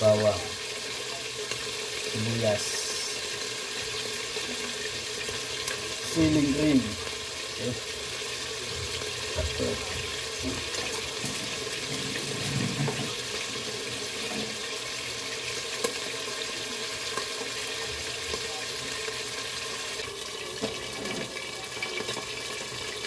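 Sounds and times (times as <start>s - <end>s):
fish sizzling in hot oil: 0.0s - 23.0s
oil popping and crackling: 0.0s - 23.0s.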